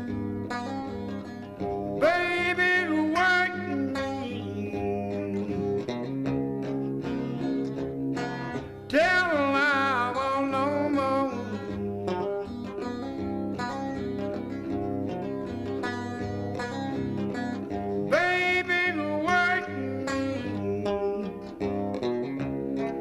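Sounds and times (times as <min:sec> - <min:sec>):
song with guitar and singing: 0:00.0 - 0:23.0.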